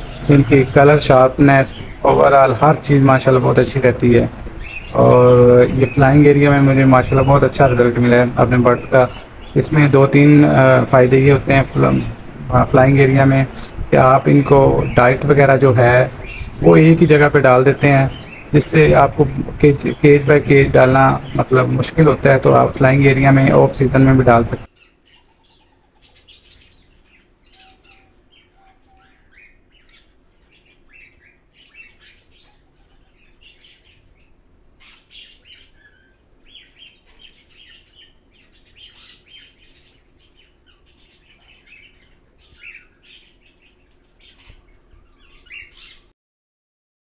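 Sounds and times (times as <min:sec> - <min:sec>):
small birds chirping: 0:00.0 - 0:46.1.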